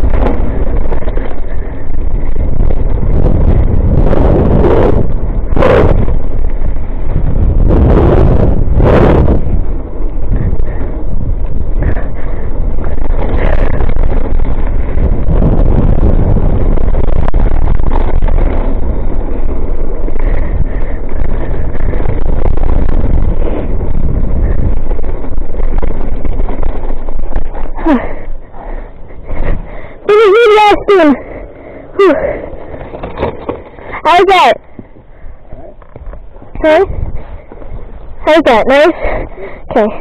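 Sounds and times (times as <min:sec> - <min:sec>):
mountain bike rumble and rattle: 0:00.0 - 0:40.0
wind buffeting microphone: 0:00.0 - 0:40.0.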